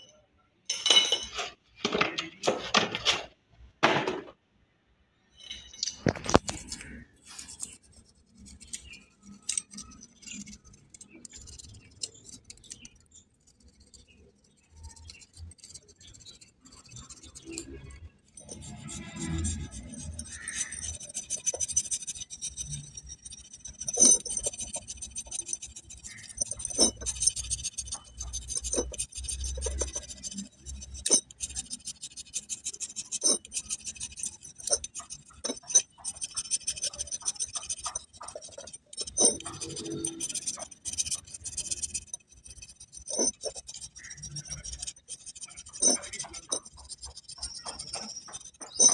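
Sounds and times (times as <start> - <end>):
metal blade scraping metal: 5.3 - 13.2, 13.9 - 48.9.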